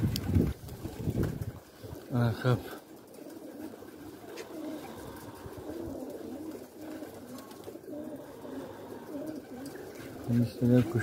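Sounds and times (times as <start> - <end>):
pigeons cooing: 0.8 - 11.0.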